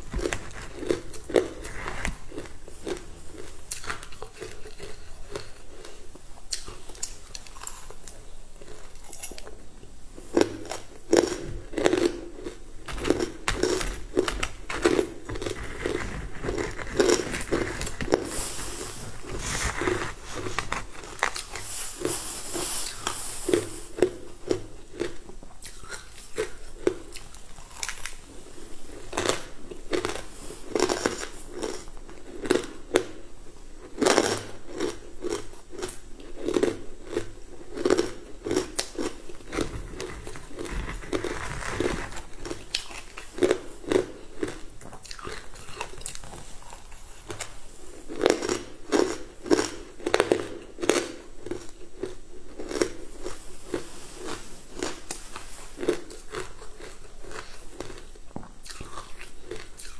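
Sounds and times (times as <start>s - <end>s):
chewing frozen sweet: 0.0s - 59.9s.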